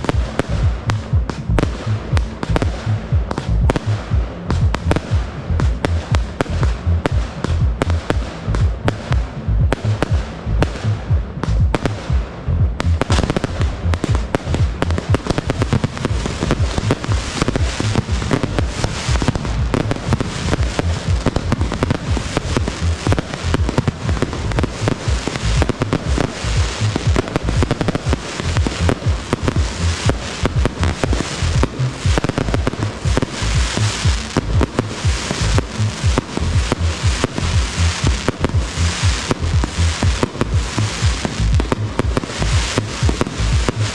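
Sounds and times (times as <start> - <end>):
fireworks bursting and crackling: 0.0 - 43.9
music playing: 0.0 - 43.9.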